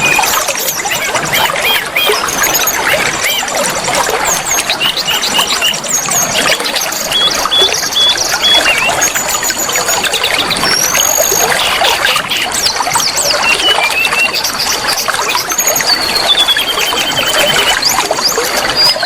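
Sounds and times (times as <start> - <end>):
bird singing: 0.0 - 3.5, 4.3 - 19.0
trickling water: 0.0 - 19.0.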